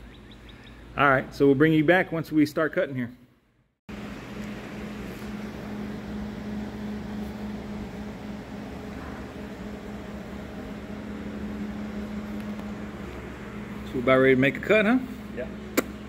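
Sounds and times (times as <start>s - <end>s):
low mechanical hum: 0.0s - 3.2s, 3.9s - 16.0s.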